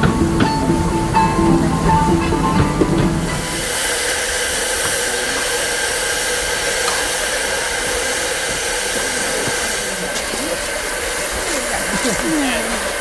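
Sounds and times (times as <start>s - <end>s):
steam locomotive venting steam: 0.0s - 13.0s.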